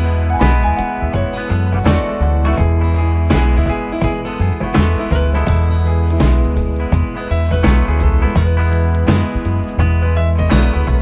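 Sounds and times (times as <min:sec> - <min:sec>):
upbeat music with guitar: 0:00.0 - 0:11.0.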